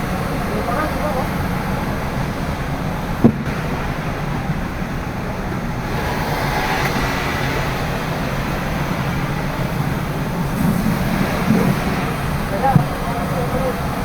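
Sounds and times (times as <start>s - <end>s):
faint engine whine: 0.0s - 14.0s
jet engines rumbling: 0.0s - 14.0s.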